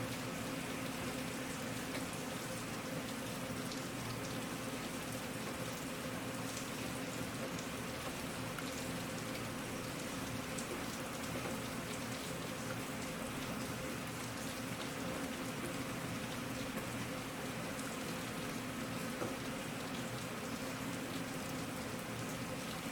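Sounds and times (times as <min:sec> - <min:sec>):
rain drops ticking on a surface: 0:00.0 - 0:22.9.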